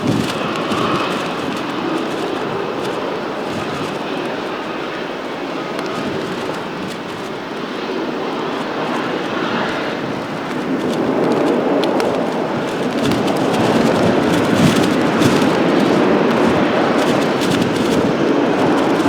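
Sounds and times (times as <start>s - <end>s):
airliner jet engines: 0.0s - 19.0s
wind buffeting microphone: 0.0s - 19.0s.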